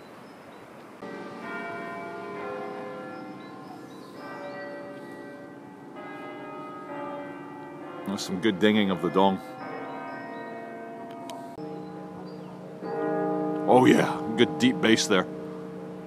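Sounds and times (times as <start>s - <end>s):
church bells ringing: 1.0s - 16.0s.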